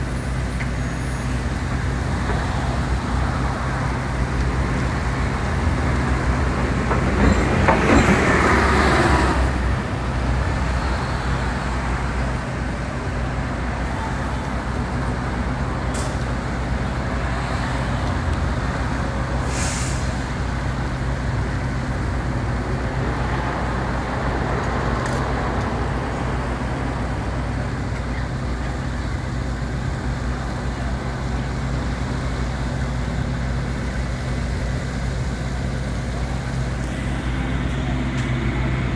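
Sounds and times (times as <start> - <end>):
large vehicle engine drone: 0.0 - 38.9
traffic noise: 0.0 - 38.9.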